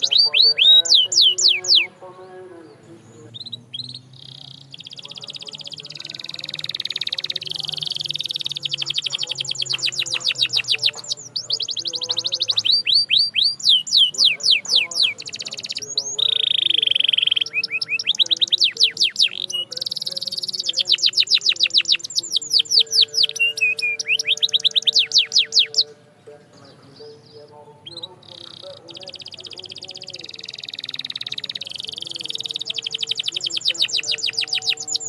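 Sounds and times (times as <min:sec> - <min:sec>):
canary singing: 0:00.0 - 0:35.0.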